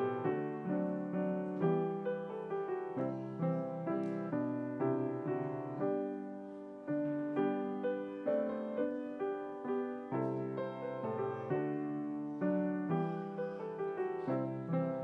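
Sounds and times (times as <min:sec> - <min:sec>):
piano chords and melody: 0:00.0 - 0:15.0.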